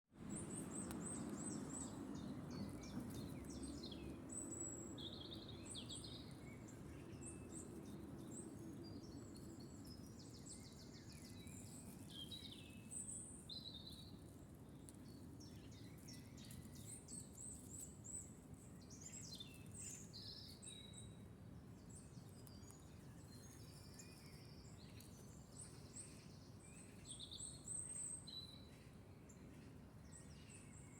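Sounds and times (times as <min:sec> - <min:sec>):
small birds chirping and singing: 0:00.2 - 0:30.9.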